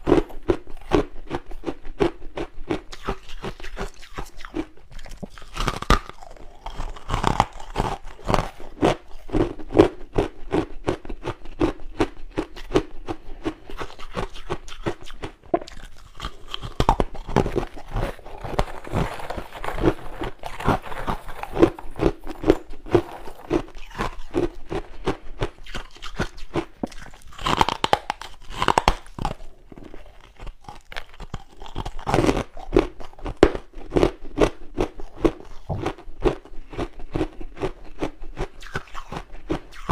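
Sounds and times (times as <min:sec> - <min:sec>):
person crunching frost: 0:02.9 - 0:39.9.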